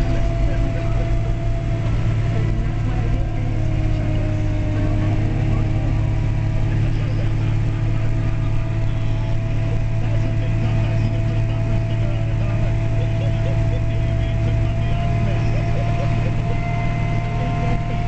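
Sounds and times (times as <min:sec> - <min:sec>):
diesel engine droning: 0:00.0 - 0:18.0
faint steady whine: 0:00.0 - 0:18.0.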